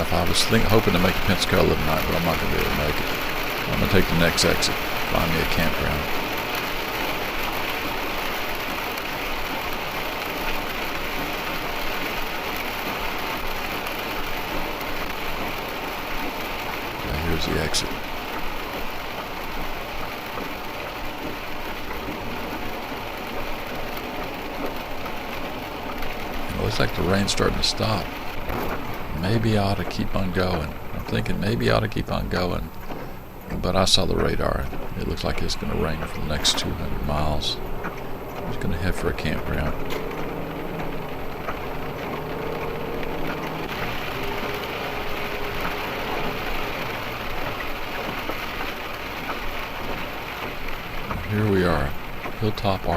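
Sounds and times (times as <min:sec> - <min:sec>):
rain on windshield: 0:00.0 - 0:52.9
road and engine noise: 0:00.0 - 0:52.9.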